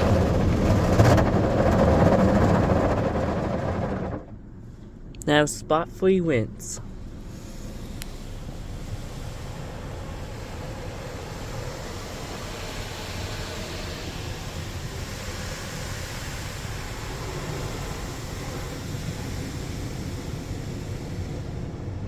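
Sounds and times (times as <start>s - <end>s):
automatic car wash rushing: 0.0s - 22.0s.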